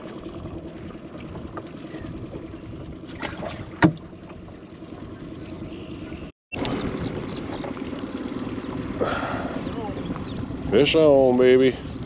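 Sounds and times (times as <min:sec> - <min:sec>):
low hum: 0:00.0 - 0:12.0
wind and water noise: 0:00.0 - 0:12.0.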